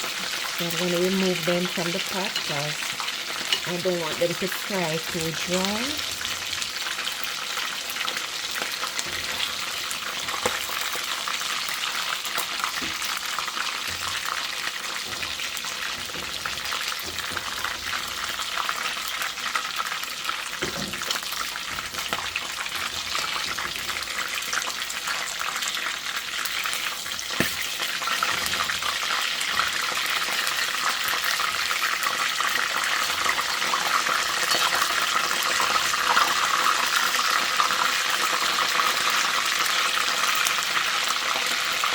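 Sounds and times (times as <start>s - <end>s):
chicken frying in hot oil: 0.0s - 41.9s.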